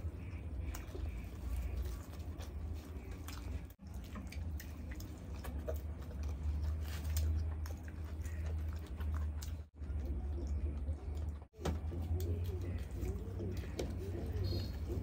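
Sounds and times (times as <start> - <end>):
chewing and lip smacks: 0.0 - 15.0
wet squishing of food: 0.0 - 15.0.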